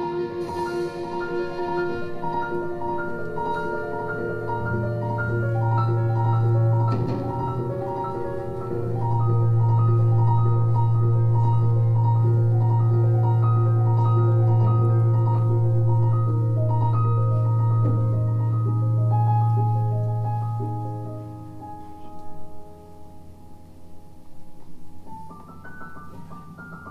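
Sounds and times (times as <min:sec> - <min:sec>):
bowed double bass note: 0:00.0 - 0:22.8
piano short high notes: 0:00.0 - 0:23.6.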